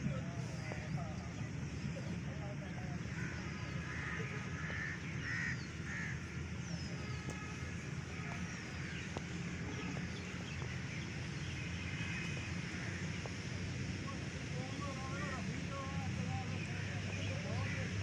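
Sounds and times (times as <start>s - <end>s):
birds calling: 0.3s - 18.0s.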